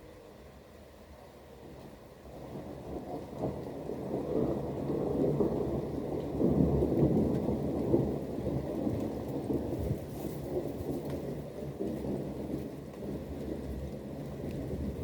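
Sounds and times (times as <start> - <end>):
rolling thunder: 2.3 - 15.0.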